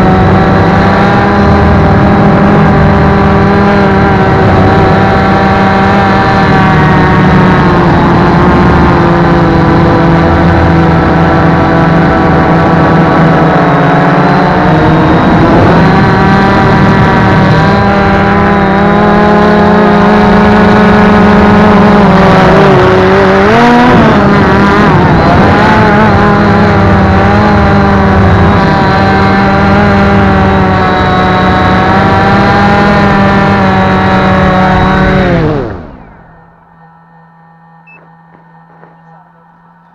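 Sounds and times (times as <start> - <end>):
small engine at high revs: 0.0 - 39.9.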